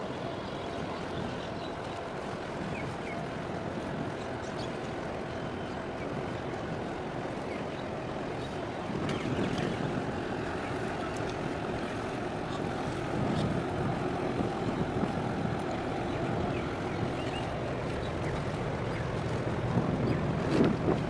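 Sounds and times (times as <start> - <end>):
small boat engine rumble: 0.0 - 21.0
water rushing along hull: 0.0 - 21.0
wind buffeting microphone: 0.0 - 21.0.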